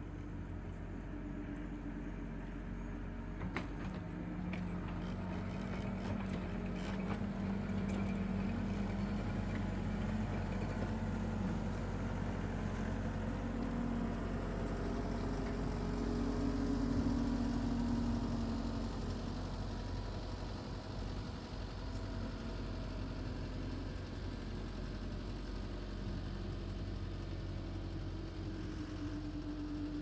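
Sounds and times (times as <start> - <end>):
tractor engine under load: 1.6 - 30.0.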